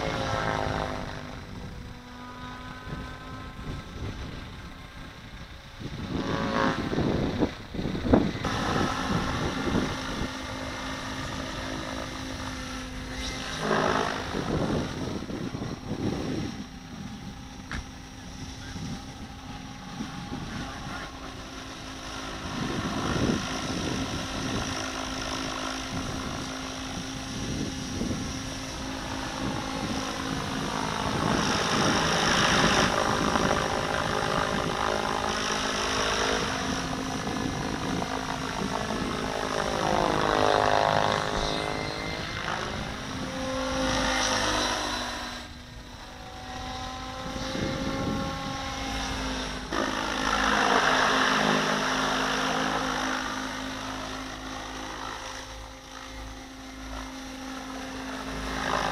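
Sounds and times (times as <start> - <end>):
rc helicopter rotor and motor whine: 0.0 - 58.9.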